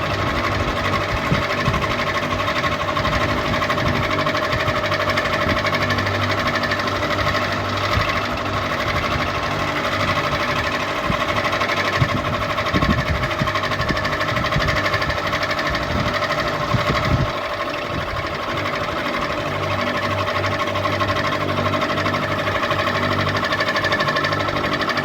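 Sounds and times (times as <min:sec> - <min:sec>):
ceiling fan motor hum: 0:00.0 - 0:25.0
fan mechanical clatter: 0:00.0 - 0:25.0.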